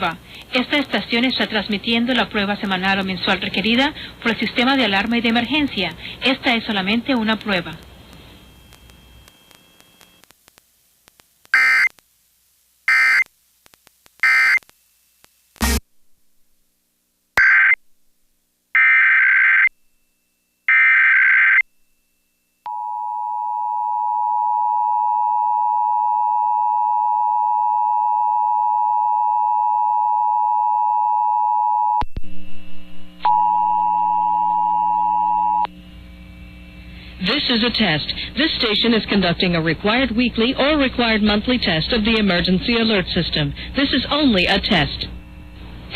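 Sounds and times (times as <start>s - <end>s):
low hum and buzz: 0.0s - 17.3s, 21.6s - 45.9s.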